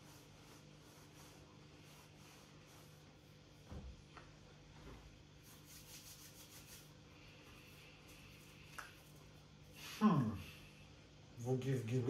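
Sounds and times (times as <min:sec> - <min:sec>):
faint rubbing or rustling: 0:00.0 - 0:10.0
steady low hum: 0:00.0 - 0:12.0.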